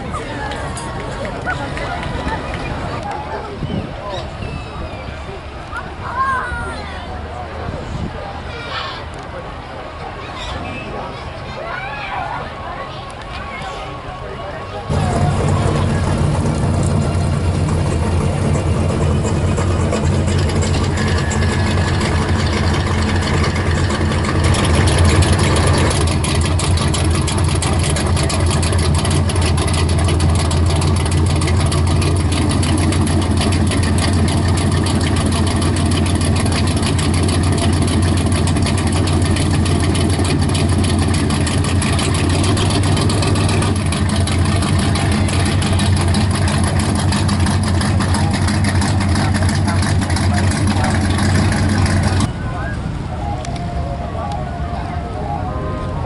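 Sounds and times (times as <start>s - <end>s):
car engines humming: 0.0s - 56.0s.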